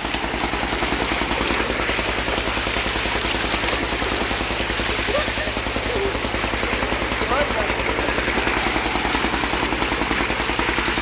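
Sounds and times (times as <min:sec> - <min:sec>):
engine chugging: 0:00.0 - 0:11.0
water gushing into a tank: 0:00.0 - 0:11.0.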